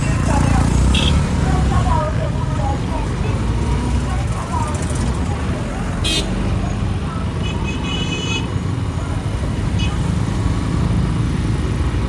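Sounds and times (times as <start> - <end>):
traffic and road noise: 0.0 - 12.0.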